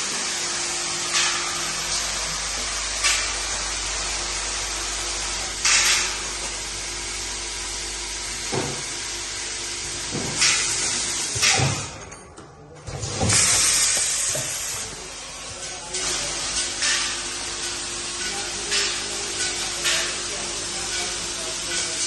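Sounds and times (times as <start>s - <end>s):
bagging machine humming: 0.0s - 12.1s, 12.9s - 22.0s.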